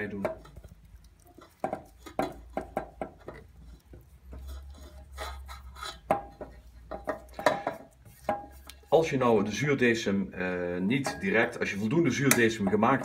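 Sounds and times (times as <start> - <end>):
bowls and spatula clinking: 0.0 - 9.7, 10.5 - 13.0
spatula scraping metal bowl: 0.0 - 9.9, 10.5 - 13.0.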